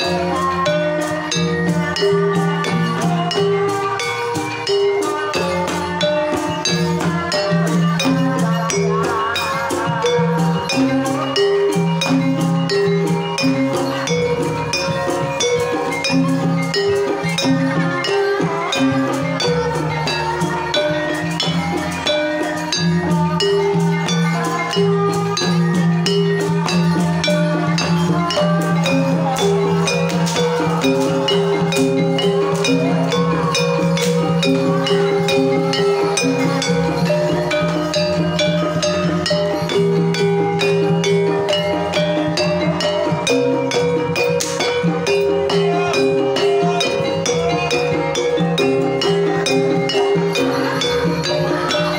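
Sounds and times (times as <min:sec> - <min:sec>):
drums keeping a steady beat: 0:00.0 - 0:51.9
keyed percussion notes: 0:00.0 - 0:51.9
woman singing: 0:00.0 - 0:51.9.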